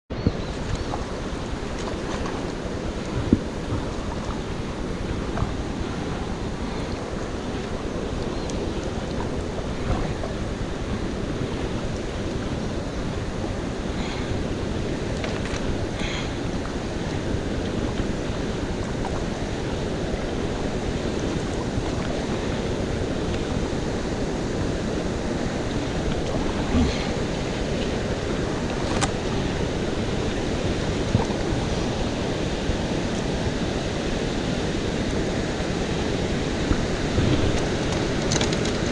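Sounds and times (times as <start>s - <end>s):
kayak paddling in water: 0.1s - 38.9s
wind buffeting microphone: 0.1s - 38.9s.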